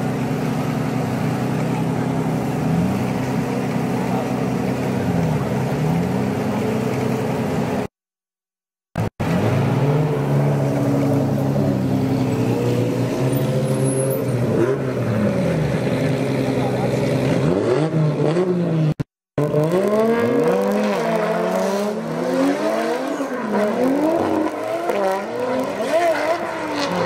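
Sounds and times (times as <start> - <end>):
car engines revving: 0.0 - 7.9, 9.0 - 27.0.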